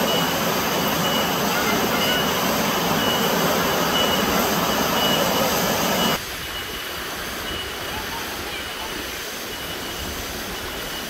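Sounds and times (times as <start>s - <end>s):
shallow stream rushing: 0.0s - 11.0s
waterfall roaring: 0.0s - 11.0s.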